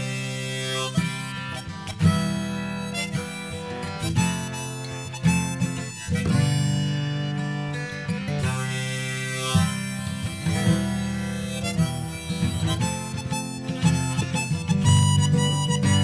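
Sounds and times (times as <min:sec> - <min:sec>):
harmonica melody: 0:00.0 - 0:16.0
plucked acoustic guitar: 0:00.0 - 0:16.0.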